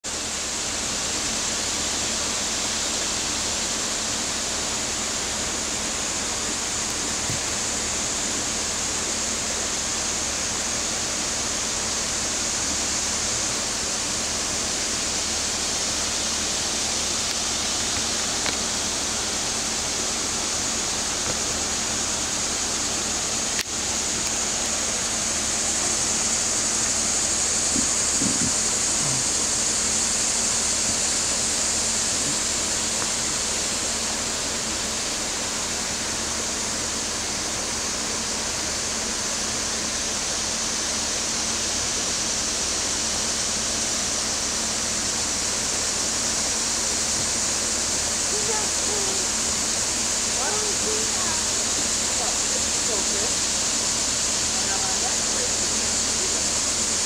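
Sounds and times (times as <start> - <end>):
creek water running over rocks: 0.1 - 57.0.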